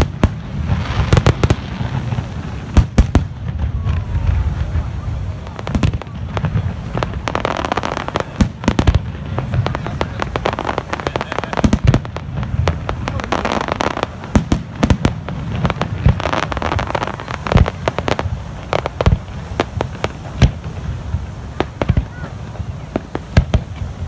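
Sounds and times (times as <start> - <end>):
fireworks bangs: 0.0 - 24.0
fireworks crackle and rumble: 0.0 - 24.0.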